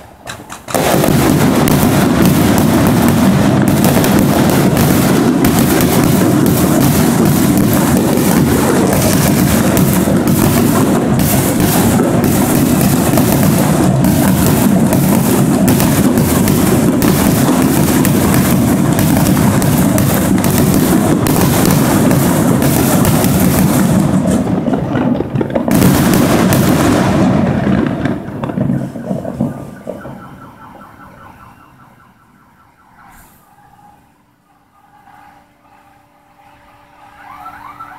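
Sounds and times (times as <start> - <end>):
fireworks bangs and crackles: 0.0 - 32.4.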